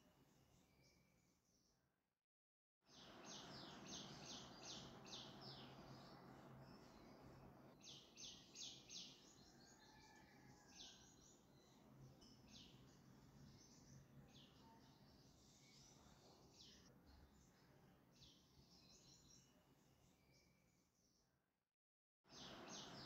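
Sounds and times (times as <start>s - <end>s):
faint birds chirping: 2.9s - 21.4s, 22.3s - 23.0s.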